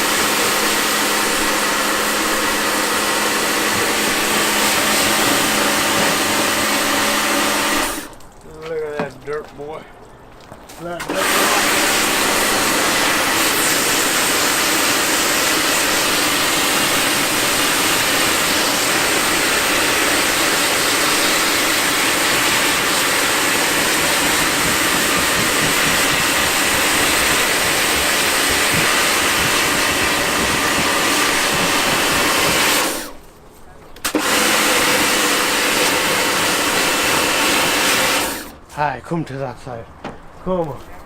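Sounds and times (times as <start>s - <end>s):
pressure washer spray hissing: 0.0s - 8.2s, 11.0s - 33.2s, 34.0s - 38.6s
pump humming: 0.0s - 8.6s, 10.8s - 33.2s, 34.0s - 38.6s.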